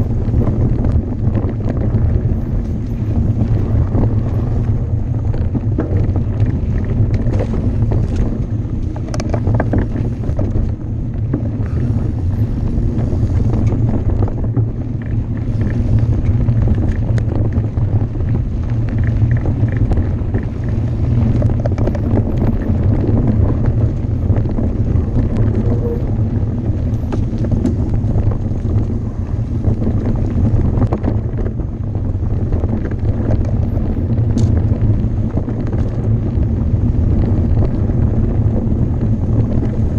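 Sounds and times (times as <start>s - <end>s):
bike rattling over rough trail: 0.0s - 39.9s
wind buffeting microphone: 0.0s - 39.9s.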